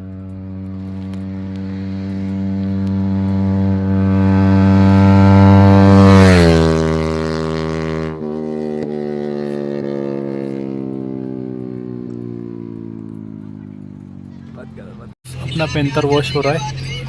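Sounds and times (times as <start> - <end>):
motorcycle engine passing at speed: 0.0 - 17.0.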